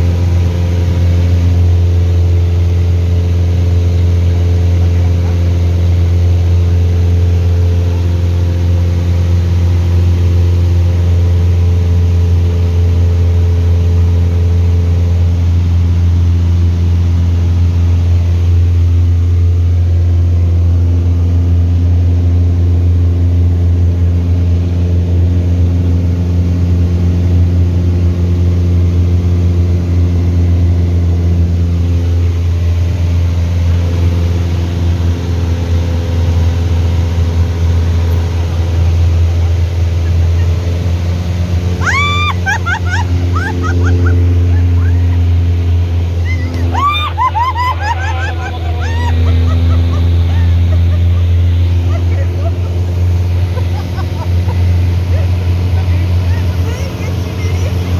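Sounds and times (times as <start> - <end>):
propeller aircraft engine drone: 0.0 - 57.9.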